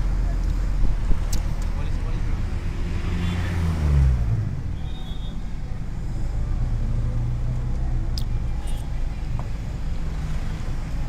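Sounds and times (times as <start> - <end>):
bus engine running: 0.0 - 3.1, 4.0 - 11.0.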